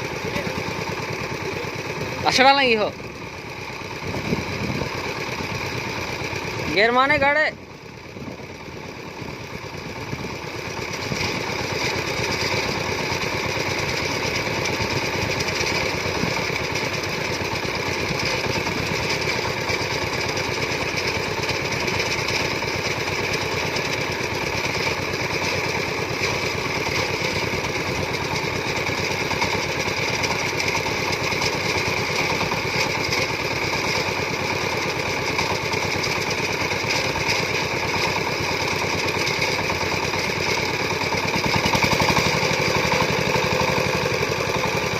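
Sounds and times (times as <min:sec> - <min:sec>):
farm machine engine chugging: 0:00.0 - 0:44.9.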